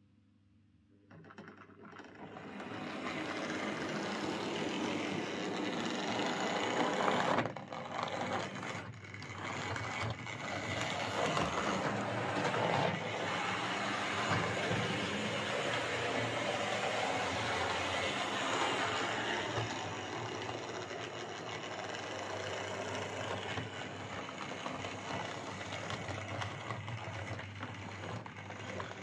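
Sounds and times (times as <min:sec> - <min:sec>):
wheels rattling over rails: 0:01.4 - 0:29.0
model train motor whirring: 0:02.3 - 0:29.0.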